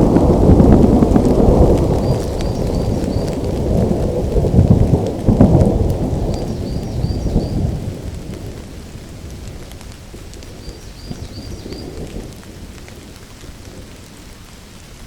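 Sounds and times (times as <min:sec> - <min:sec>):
rolling thunder: 0:00.0 - 0:14.0
steady rainfall: 0:00.0 - 0:15.0.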